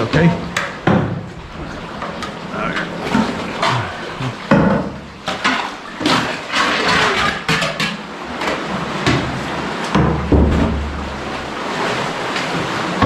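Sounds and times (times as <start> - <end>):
water sloshing against rock: 0.0 - 13.0.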